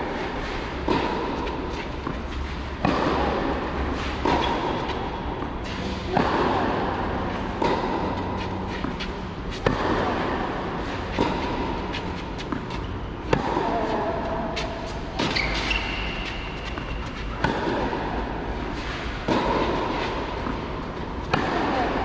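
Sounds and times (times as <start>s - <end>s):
tennis ball hit by rackets: 0.1s - 22.0s.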